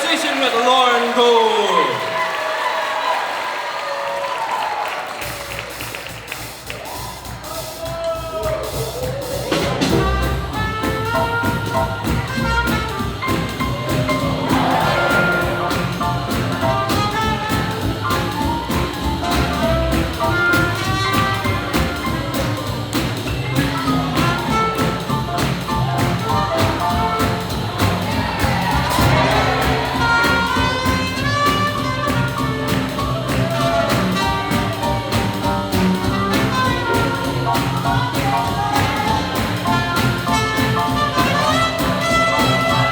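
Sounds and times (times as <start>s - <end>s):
swing jazz band with brass: 2.2s - 42.9s.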